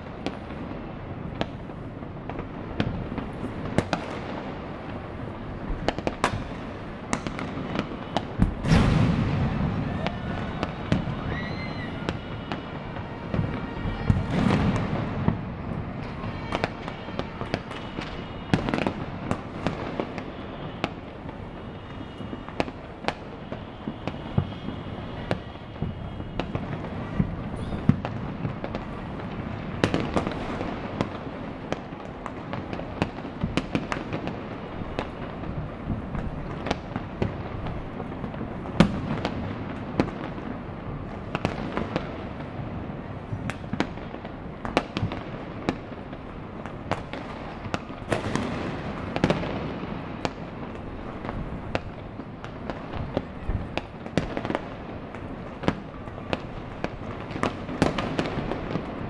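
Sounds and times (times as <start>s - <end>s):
fireworks bangs and pops: 0.0s - 59.0s
loud firework report: 0.0s - 59.0s.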